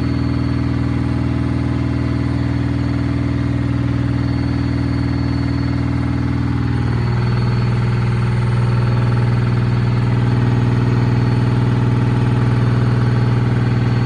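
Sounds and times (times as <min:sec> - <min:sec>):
higher tone in drone: 0:00.0 - 0:14.0
washing machine droning hum: 0:00.0 - 0:14.0.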